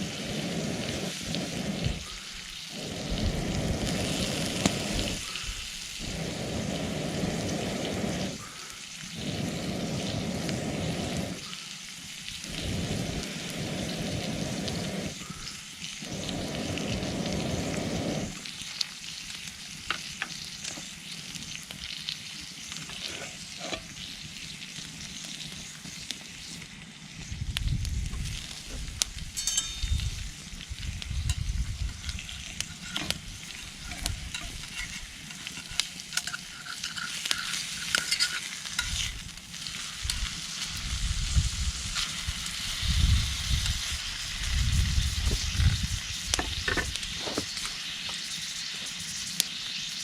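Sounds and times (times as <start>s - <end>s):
food sizzling over a campfire: 0.0s - 50.0s.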